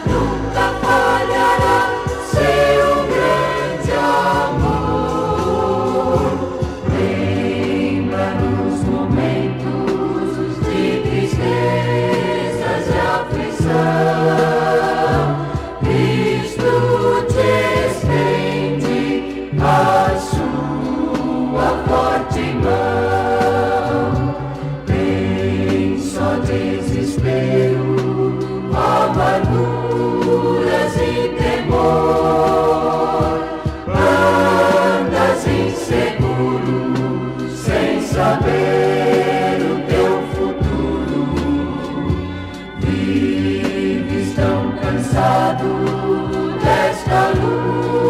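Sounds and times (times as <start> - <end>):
choir singing a hymn: 0.0 - 48.0
instrumental accompaniment: 0.0 - 48.0.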